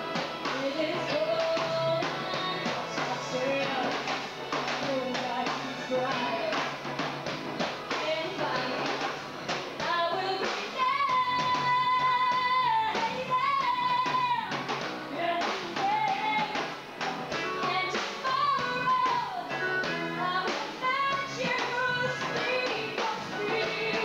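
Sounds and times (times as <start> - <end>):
woman singing with vibrato: 0.0 - 6.7, 7.9 - 9.0, 9.8 - 16.7, 17.6 - 24.0
rock band playing: 0.0 - 24.0
steady drum beat: 0.0 - 24.0.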